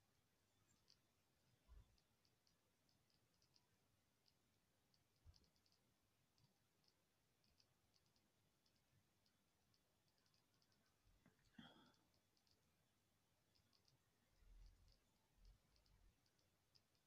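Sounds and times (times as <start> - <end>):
faint ticks: 0.5 - 17.0.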